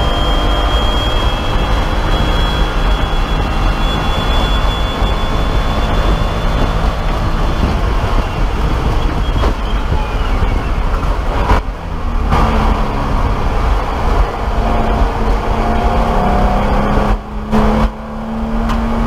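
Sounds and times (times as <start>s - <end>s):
race car engine at high speed: 0.0s - 19.0s.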